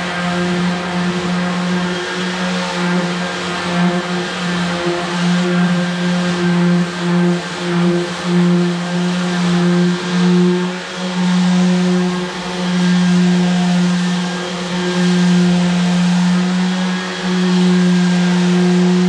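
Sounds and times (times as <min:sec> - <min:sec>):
orbital sander motor hum: 0:00.0 - 0:19.0.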